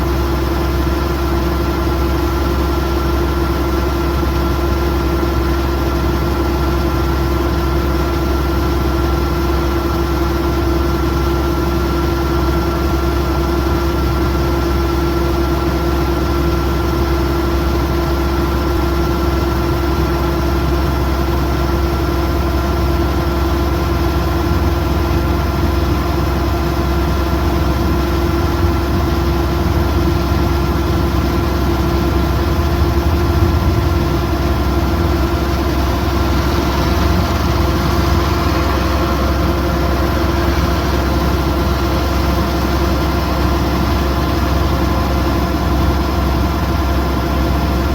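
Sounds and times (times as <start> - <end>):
combine harvester engine drone: 0.0 - 47.9.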